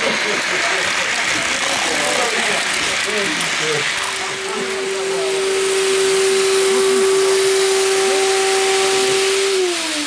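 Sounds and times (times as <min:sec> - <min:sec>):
model train whine and hiss: 0:00.0 - 0:10.0.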